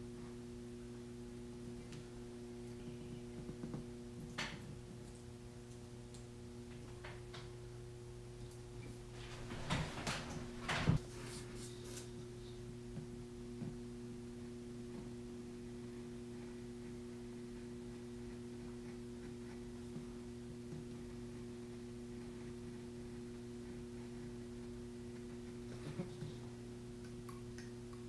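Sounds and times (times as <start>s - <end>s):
low electrical mains hum: 0.0s - 28.0s.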